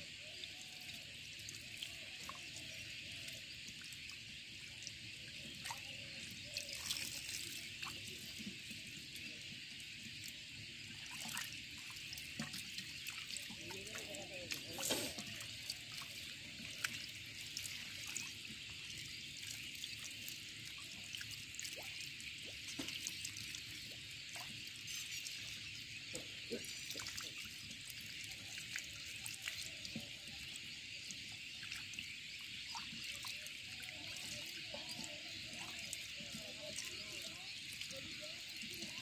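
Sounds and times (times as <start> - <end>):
small drips and ticks: 0.0 - 39.0
water trickling over plastic: 0.0 - 39.0.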